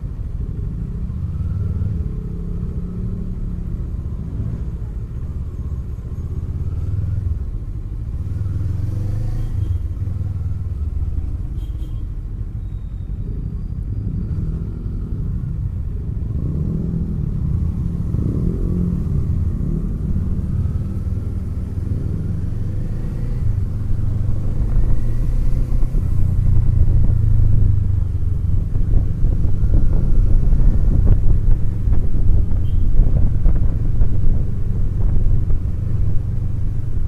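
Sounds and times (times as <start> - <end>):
motorcycle engine rumble: 0.0 - 37.0.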